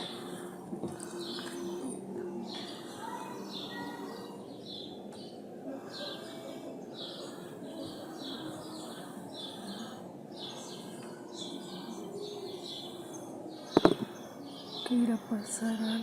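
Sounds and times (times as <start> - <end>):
faint hum: 0.0 - 16.0
outdoor background noise: 0.0 - 16.0.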